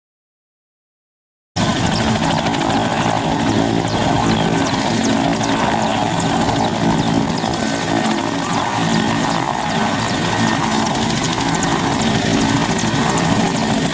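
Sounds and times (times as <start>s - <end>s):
helicopter rotor and engines: 1.6s - 13.9s.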